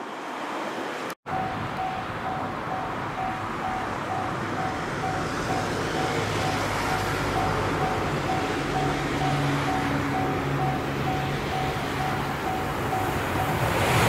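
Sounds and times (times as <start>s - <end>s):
electric train rumbling: 1.3s - 14.0s
level crossing warning bell: 1.3s - 14.0s.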